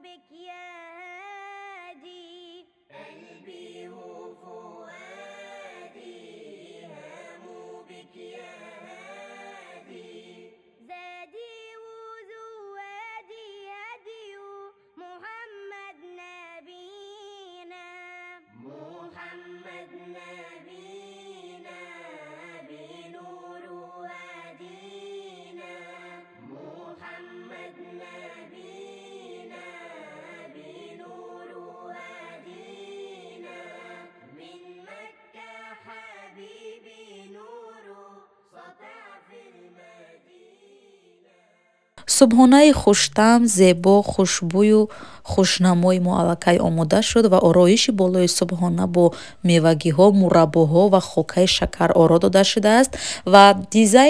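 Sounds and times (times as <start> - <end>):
slow chant-like singing: 0.0 - 54.0.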